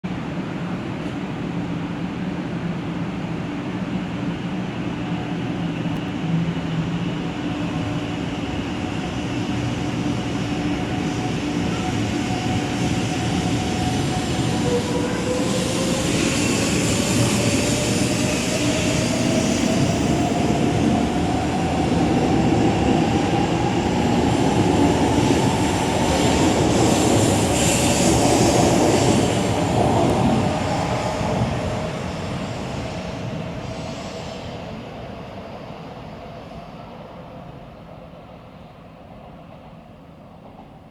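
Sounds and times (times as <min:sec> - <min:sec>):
train running noise: 0:00.1 - 0:40.9.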